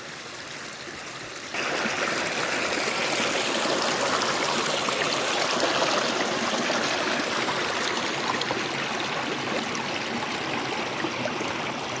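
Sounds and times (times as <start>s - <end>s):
running water flowing: 0.0s - 12.0s.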